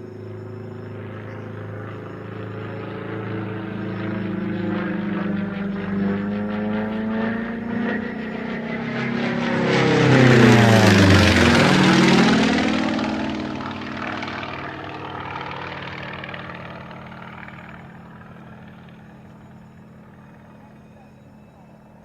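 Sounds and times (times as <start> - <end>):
aircraft flying past low: 0.0 - 22.0.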